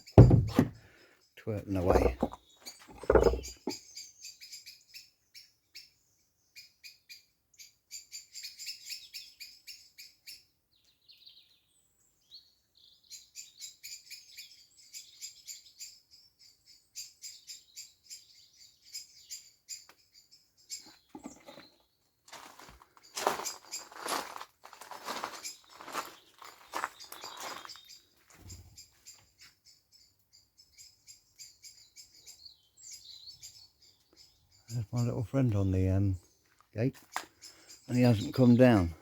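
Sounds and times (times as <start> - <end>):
birds chirping and twittering: 0.0 - 39.0.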